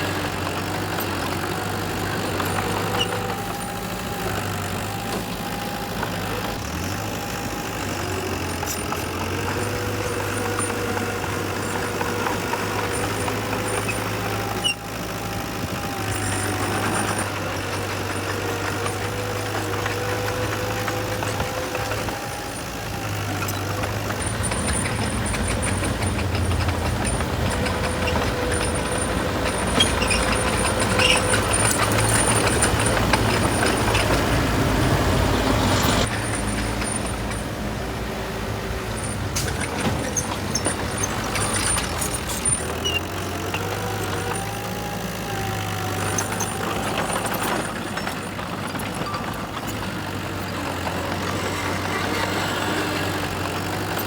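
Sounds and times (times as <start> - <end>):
heavy diesel machinery engines: 0.0 - 54.0.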